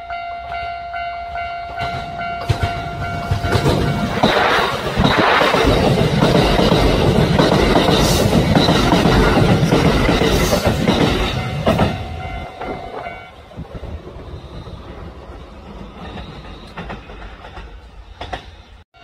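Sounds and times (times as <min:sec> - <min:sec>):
train wheels clattering on rails: 0:01.3 - 0:18.8.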